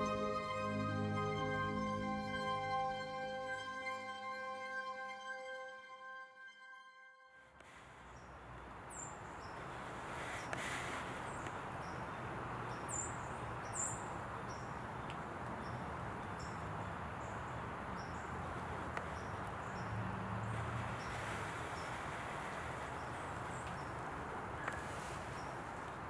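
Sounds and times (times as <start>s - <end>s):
steady outdoor hiss: 0.0s - 4.7s, 7.6s - 26.0s.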